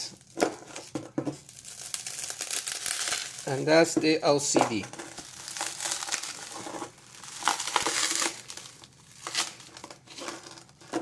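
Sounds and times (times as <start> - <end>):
plastic crackling and crinkling: 0.0 - 11.0.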